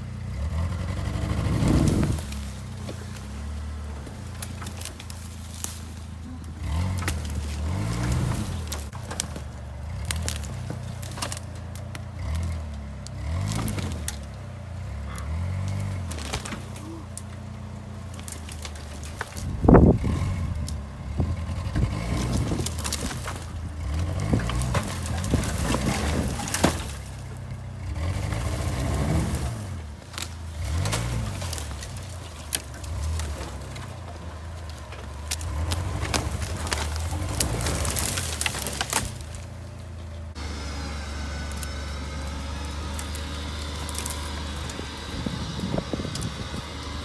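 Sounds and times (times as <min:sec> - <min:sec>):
car engine revving: 0:00.0 - 0:47.0
cracks scrapes and knocks: 0:00.3 - 0:40.5, 0:41.3 - 0:47.0.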